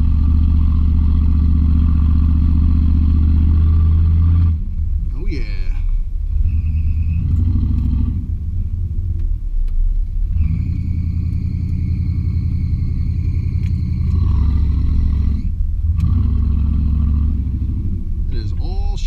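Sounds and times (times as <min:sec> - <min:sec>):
pickup truck engine and exhaust: 0:00.0 - 0:19.0.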